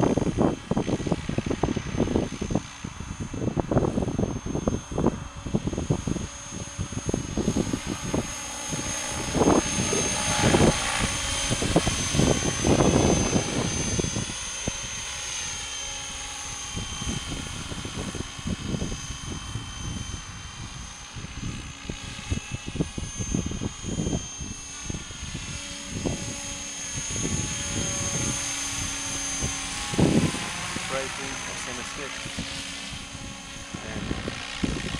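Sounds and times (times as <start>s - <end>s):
model helicopter whine: 0.0s - 34.9s
wind buffeting microphone: 0.0s - 34.9s.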